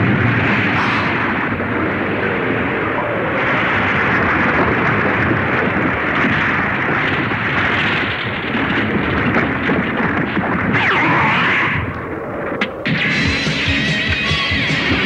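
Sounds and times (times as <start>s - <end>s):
continuous rushing rumbling noise: 0.0s - 15.0s.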